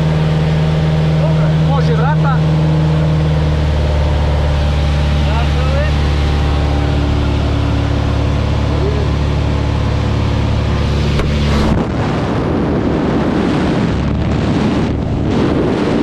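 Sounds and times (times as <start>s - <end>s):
propeller plane engine droning: 0.0s - 16.0s
wind buffeting microphone: 0.0s - 16.0s.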